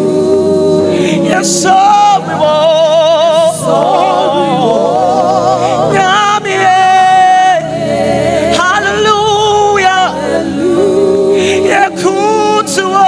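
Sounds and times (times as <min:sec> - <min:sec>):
vibrato gospel singing: 0:00.0 - 0:13.0.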